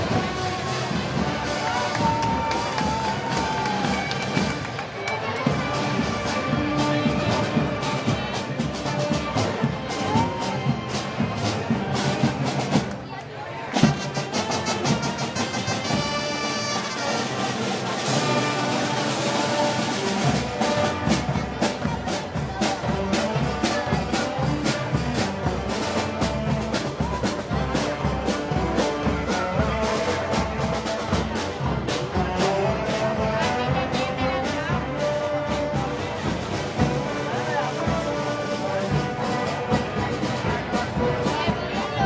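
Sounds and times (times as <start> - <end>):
drums steady beat: 0.0 - 13.1, 13.7 - 42.0
brass band playing: 0.0 - 42.0.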